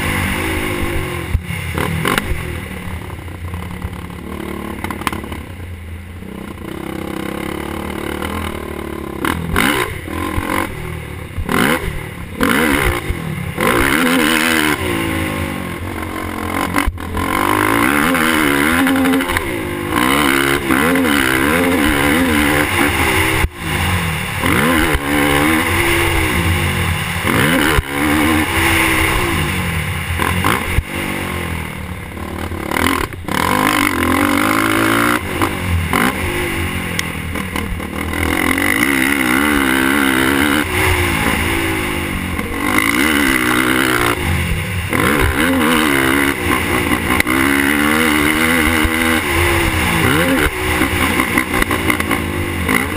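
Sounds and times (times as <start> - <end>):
quad bike engine revving: 0.0 - 52.9
steady rushing noise: 0.0 - 52.9.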